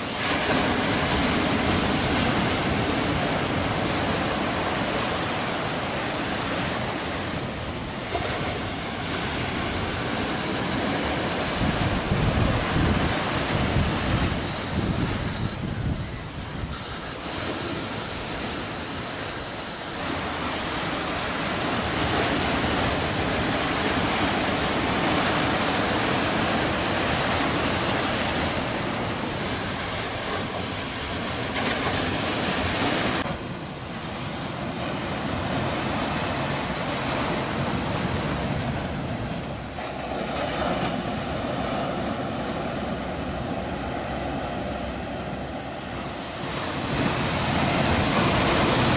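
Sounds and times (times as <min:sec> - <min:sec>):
surf breaking over rocks: 0:00.0 - 0:48.9.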